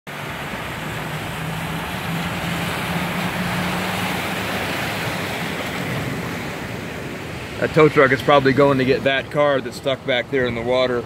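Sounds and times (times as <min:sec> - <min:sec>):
truck engine hum: 0:00.1 - 0:11.0
water rushing from wheels: 0:00.1 - 0:11.0.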